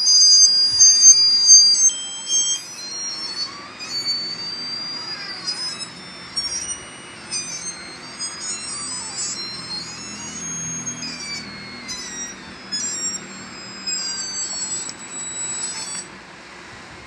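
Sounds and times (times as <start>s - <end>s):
laptop speakers beeping and wailing: 0.0s - 16.1s.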